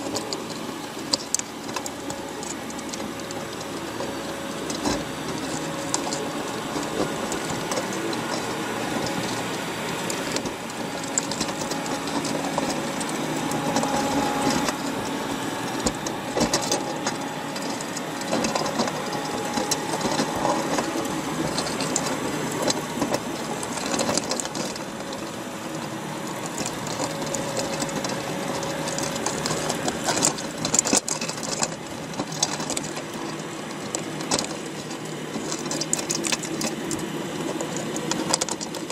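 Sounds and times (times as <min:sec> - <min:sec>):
crabs clicking underwater: 0:00.0 - 0:38.9.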